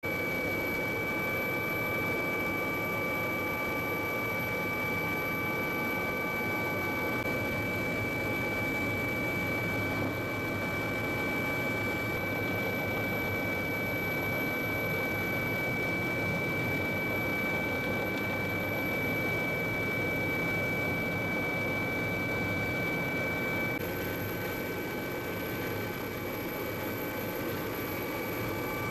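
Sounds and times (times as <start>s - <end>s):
constant high-pitched tones: 0.0s - 28.9s
running machine noise: 0.0s - 28.9s.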